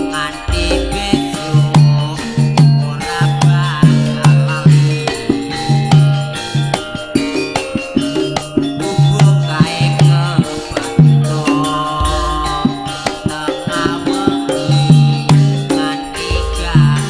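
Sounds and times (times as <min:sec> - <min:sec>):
hand drum beat: 0:00.0 - 0:17.0
ringing metal percussion tones: 0:00.0 - 0:17.0.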